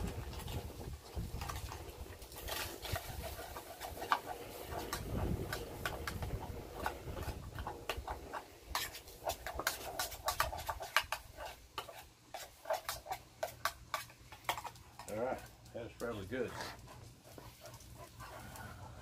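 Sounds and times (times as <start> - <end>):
food crackling and popping: 0.0 - 19.0.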